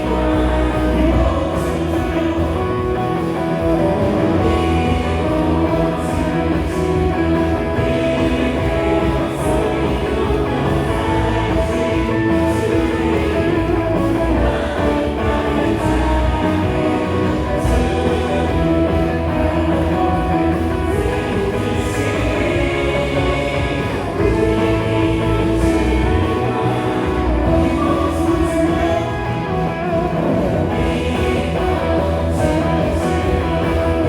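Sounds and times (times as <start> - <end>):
bass guitar: 0.0 - 34.0
drum kit: 0.0 - 34.0
electric guitar: 0.0 - 34.0
keyboard: 0.0 - 34.0.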